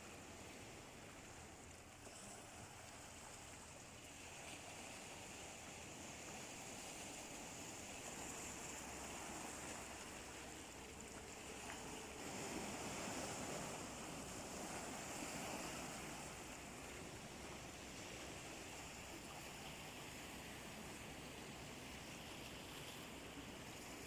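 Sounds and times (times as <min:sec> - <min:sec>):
sea waves washing onto shore: 0:00.0 - 0:24.0.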